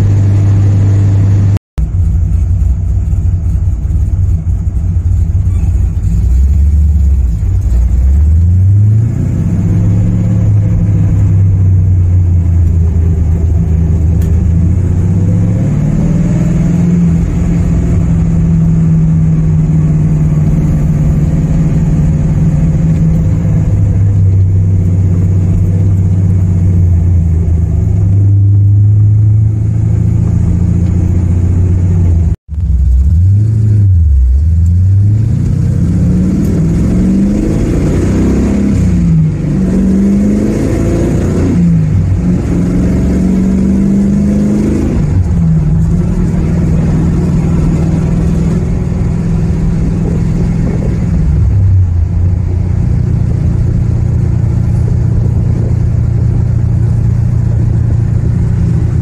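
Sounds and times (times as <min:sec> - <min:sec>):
car engine running inside car: 0:00.0 - 0:59.0.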